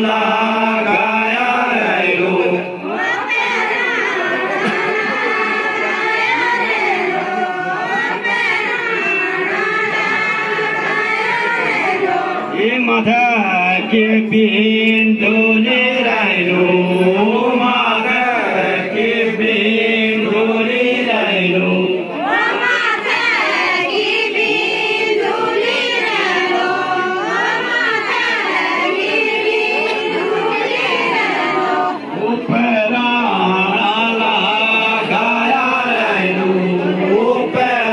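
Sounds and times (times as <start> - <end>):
group of voices singing folk song: 0.0 - 37.9.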